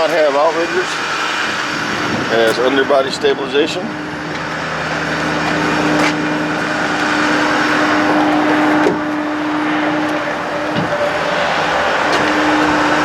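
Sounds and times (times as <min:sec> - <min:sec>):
constant pitched tone: 0:00.0 - 0:13.0
truck engine idling: 0:00.0 - 0:13.0.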